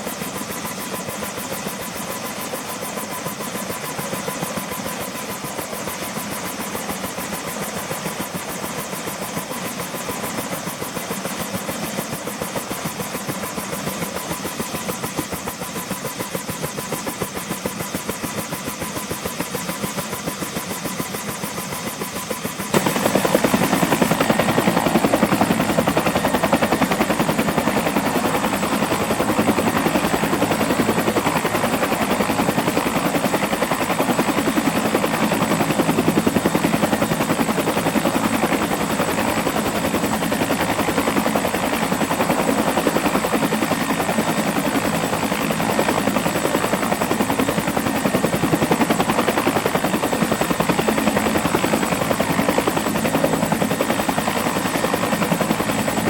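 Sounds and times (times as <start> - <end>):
helicopter rotor chop: 0.0 - 56.0
helicopter turbine whine: 0.0 - 56.0.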